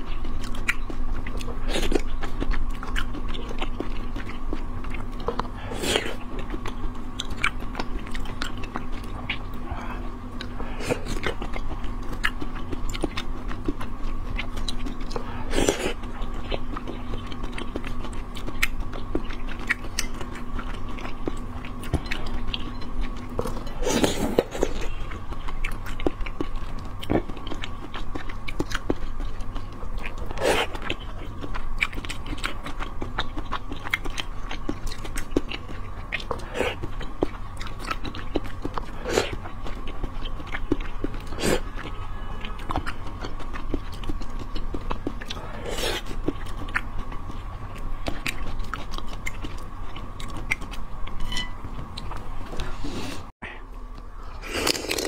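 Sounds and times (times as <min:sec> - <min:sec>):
wet chewing and biting: 0:00.0 - 0:53.3
faint steady hum: 0:00.0 - 0:55.0.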